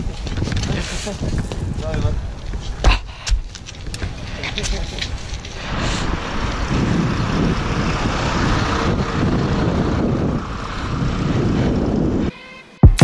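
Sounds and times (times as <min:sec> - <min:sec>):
bike tyres rolling on asphalt: 0:00.0 - 0:02.8, 0:03.5 - 0:12.3
wind buffeting microphone: 0:00.0 - 0:12.3.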